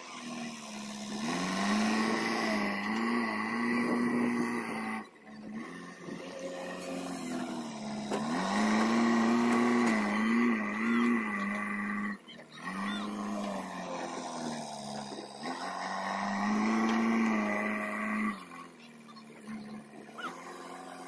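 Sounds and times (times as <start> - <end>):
diesel engine revving under load: 0.0 - 21.0.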